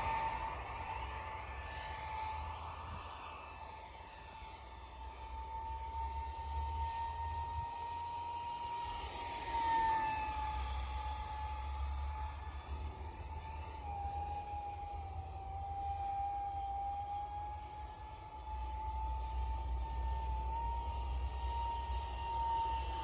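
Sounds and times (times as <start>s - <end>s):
electric ducted fan whining: 0.0s - 23.0s.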